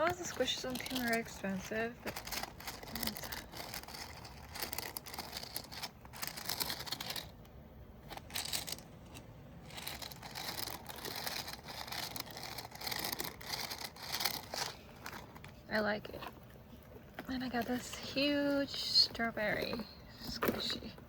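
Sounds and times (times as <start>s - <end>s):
plastic wrapper crinkling: 0.0s - 20.9s.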